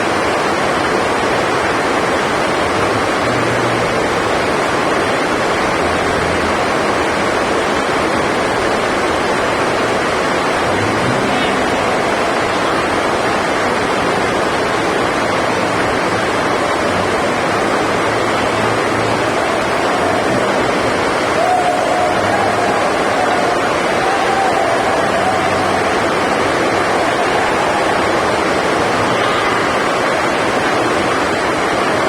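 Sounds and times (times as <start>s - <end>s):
heavy rain on a roof: 0.0s - 32.0s.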